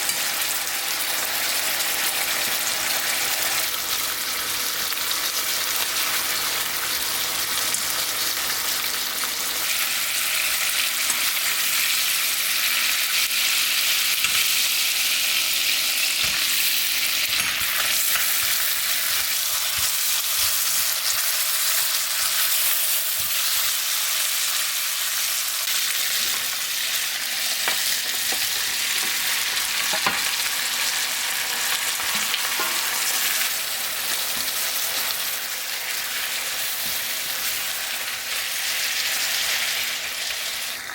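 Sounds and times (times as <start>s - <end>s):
food sizzling in frying pan: 0.0s - 40.9s.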